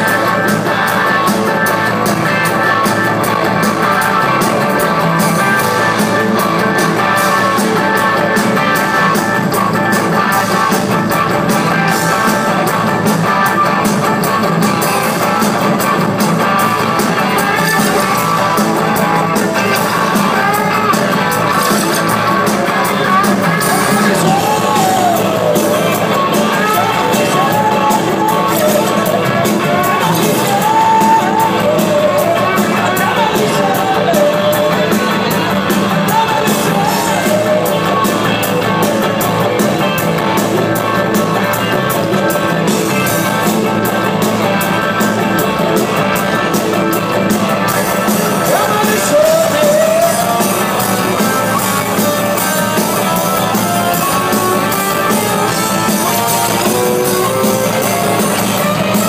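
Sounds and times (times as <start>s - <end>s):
drum beat: 0.0s - 59.0s
live band playing: 0.0s - 59.0s.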